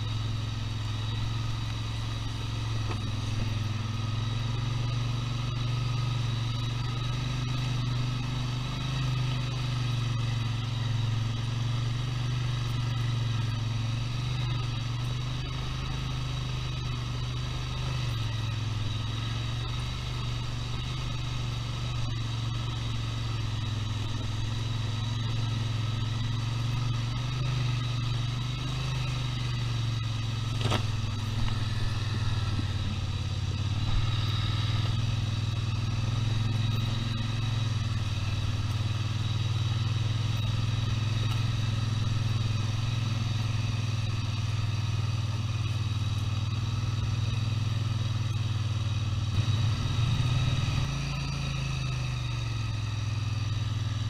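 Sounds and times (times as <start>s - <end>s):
atv engine droning: 0.0s - 54.0s.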